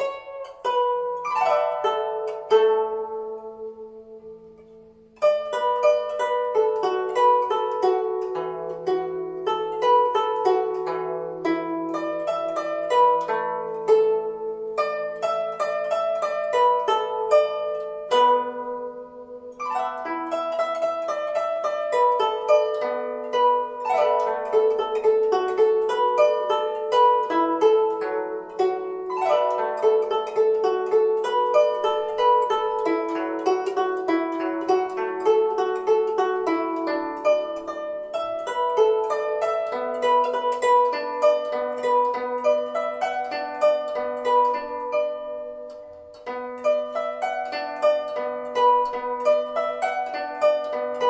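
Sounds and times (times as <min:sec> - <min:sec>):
plucked zither: 0:00.0 - 0:51.0.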